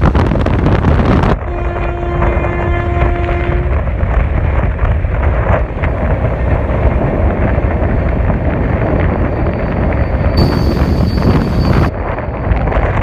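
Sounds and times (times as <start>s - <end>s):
train wheels rumbling on track: 0.0s - 13.0s
wind buffeting microphone: 0.0s - 13.0s.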